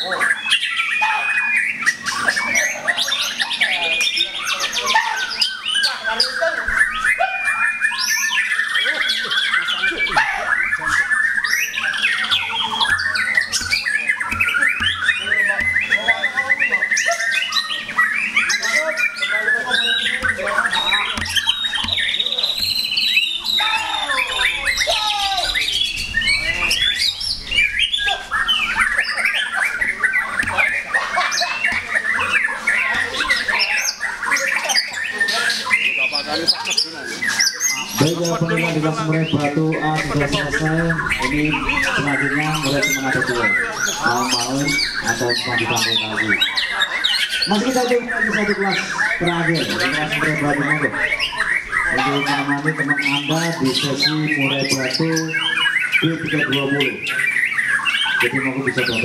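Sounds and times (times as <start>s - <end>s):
birds singing loudly: 0.0s - 59.0s.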